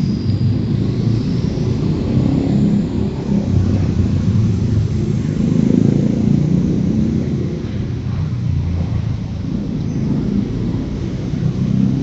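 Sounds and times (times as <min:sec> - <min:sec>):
slow car traffic on wet street: 0:00.0 - 0:12.0.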